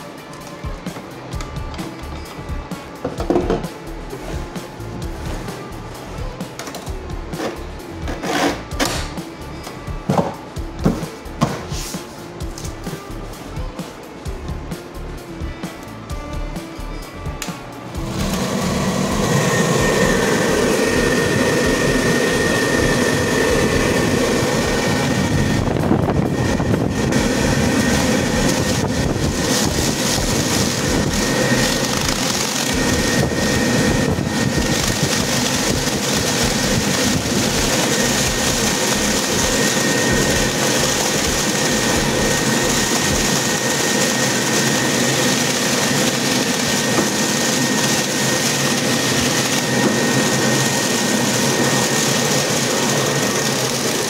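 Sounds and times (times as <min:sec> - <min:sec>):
high steady whine: 0:00.0 - 0:54.0
machine whirring: 0:00.0 - 0:54.0.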